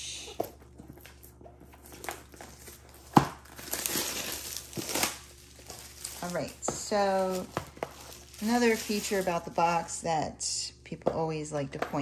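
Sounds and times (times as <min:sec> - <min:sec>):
shrink wrap crinkling: 0:00.2 - 0:10.0.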